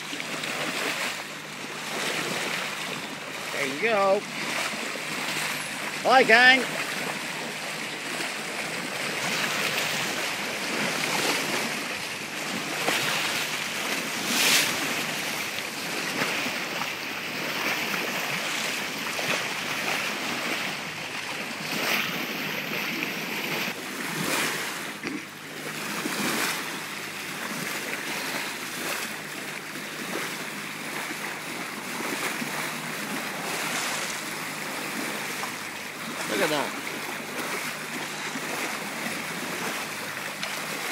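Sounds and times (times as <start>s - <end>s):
water rushing along boat bow: 0.0s - 40.9s
water splashes: 0.0s - 40.9s.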